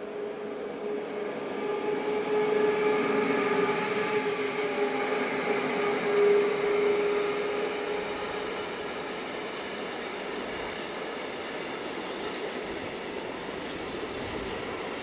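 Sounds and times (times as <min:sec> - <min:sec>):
electric train passing: 0:00.0 - 0:15.0
train whine: 0:00.0 - 0:15.0.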